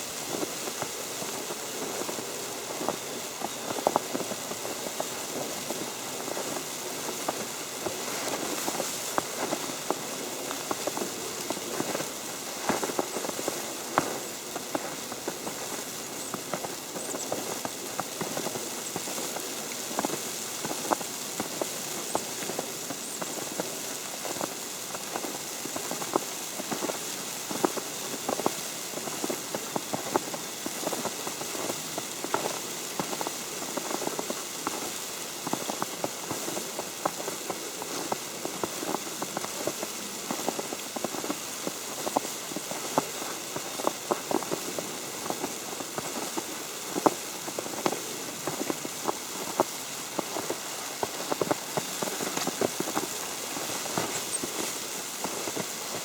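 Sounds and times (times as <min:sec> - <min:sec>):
snow tapping on umbrella: 0:00.0 - 0:56.0
steady hiss: 0:00.0 - 0:56.0.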